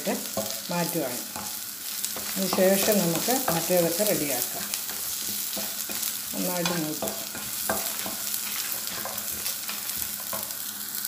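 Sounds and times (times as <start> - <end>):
food sizzling in oil: 0.0 - 11.0
wooden spatula scraping pan: 1.3 - 10.6.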